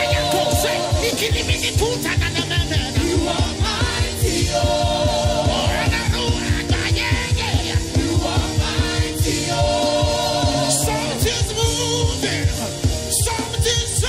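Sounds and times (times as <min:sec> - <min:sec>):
voices singing long notes: 0:00.0 - 0:12.8
band playing drum and bass beat: 0:00.0 - 0:14.0.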